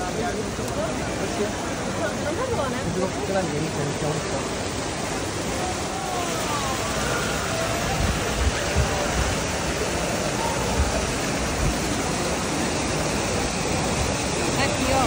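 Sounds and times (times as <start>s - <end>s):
crowd chattering faintly: 0.0s - 15.0s
fountain water pouring: 0.0s - 15.0s.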